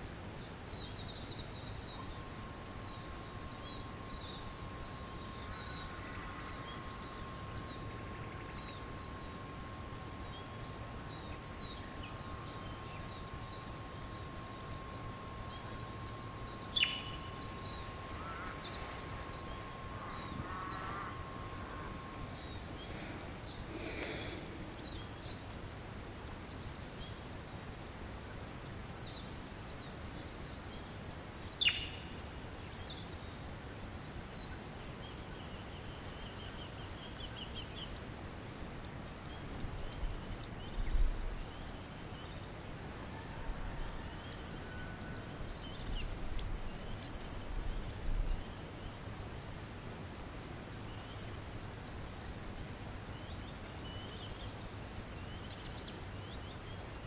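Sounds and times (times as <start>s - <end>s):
steady background hiss: 0.0s - 57.0s
small birds chirping: 0.4s - 57.0s.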